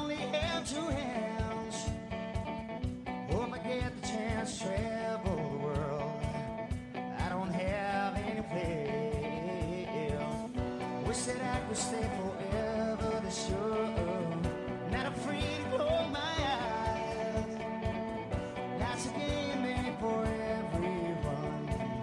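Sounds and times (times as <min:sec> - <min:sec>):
drum beat with cymbals: 0:00.0 - 0:22.0
electric guitars: 0:00.0 - 0:22.0.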